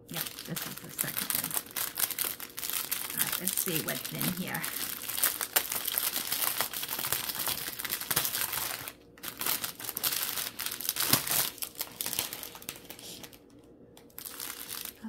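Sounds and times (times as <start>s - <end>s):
plastic packets crinkling: 0.0s - 15.0s.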